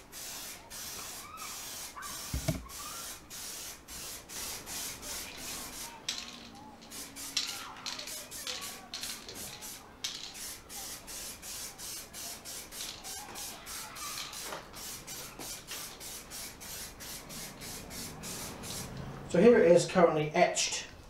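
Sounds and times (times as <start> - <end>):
aerosol can spraying in pulses: 0.0 - 6.1, 6.8 - 19.0.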